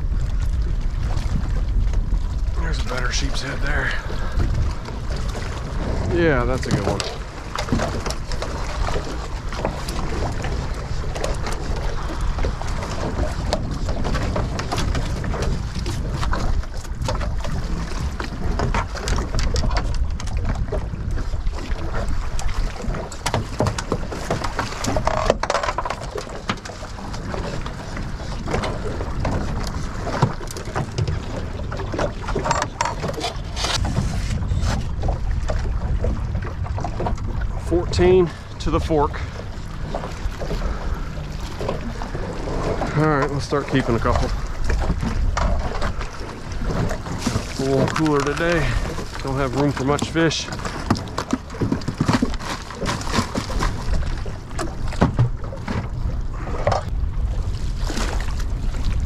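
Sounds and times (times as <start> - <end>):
water lapping against boat hull: 0.0 - 59.0
wind on microphone: 0.0 - 59.0.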